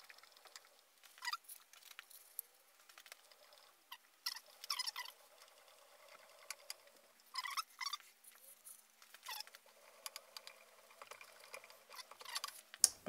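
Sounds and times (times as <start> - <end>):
read head scraping along scale: 2.2 - 12.7.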